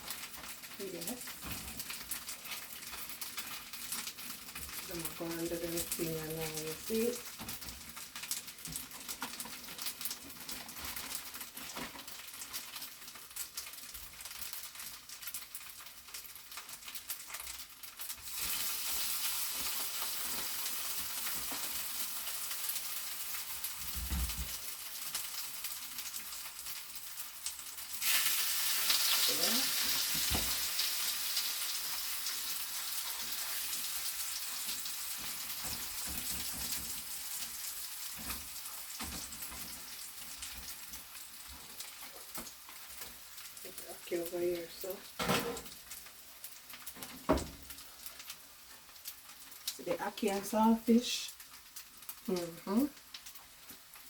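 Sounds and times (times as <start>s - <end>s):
dumplings frying in hot oil: 0.0s - 54.0s.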